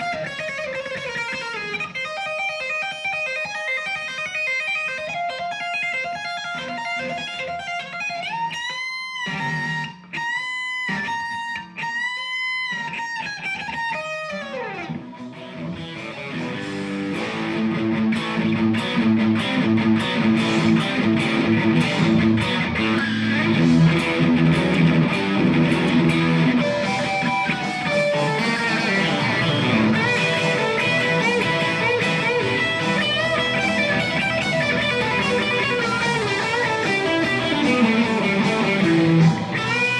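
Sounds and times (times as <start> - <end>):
electric guitar lead line: 0.0 - 39.9.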